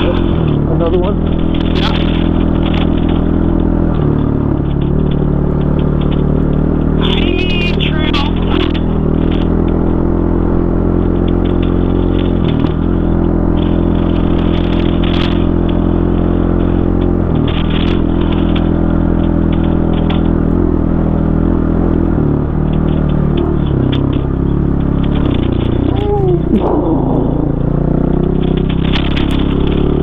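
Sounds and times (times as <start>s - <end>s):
sharp ticks and clatter: 0.0s - 30.0s.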